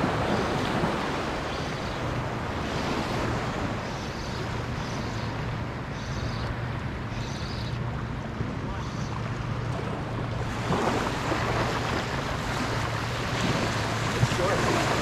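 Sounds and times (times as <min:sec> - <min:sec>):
wind buffeting microphone: 0:00.0 - 0:05.9, 0:07.8 - 0:15.0
small waves lapping on shore: 0:00.0 - 0:15.0.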